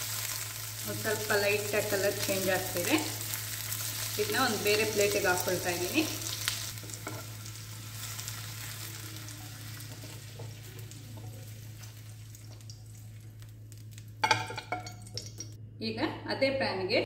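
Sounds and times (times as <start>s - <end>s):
vegetables sizzling in a pan: 0.0s - 14.5s.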